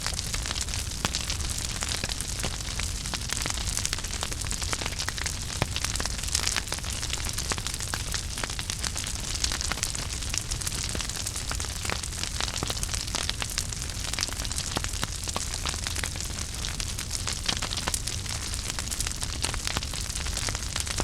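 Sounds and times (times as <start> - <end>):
fire hissing and rumbling: 0.0 - 21.0
wood crackling and popping: 0.0 - 21.0.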